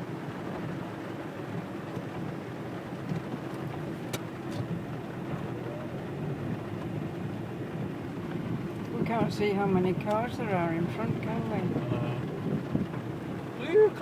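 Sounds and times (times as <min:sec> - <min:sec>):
car engine rumble from inside: 0:00.0 - 0:14.0.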